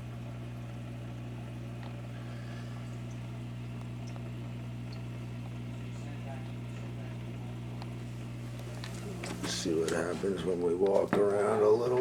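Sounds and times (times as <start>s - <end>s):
low electric hum: 0.0s - 12.0s.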